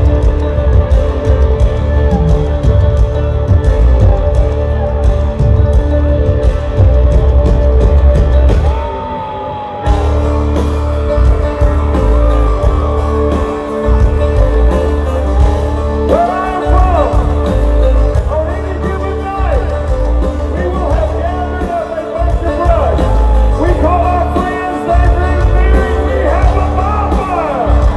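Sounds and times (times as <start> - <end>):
heavy drums: 0.0 - 27.9
live country-rock band: 0.0 - 27.9.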